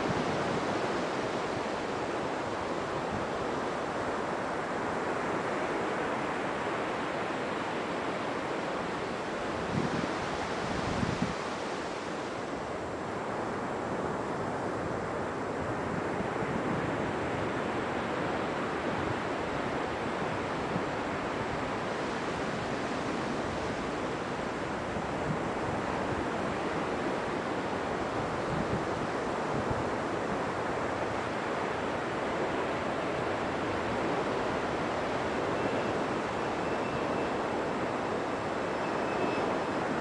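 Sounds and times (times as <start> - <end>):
sea surf on beach: 0.0 - 40.0.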